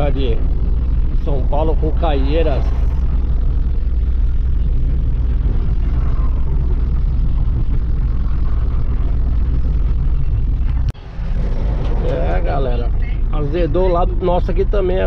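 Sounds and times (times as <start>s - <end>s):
truck engine and road drone: 0.0s - 15.0s.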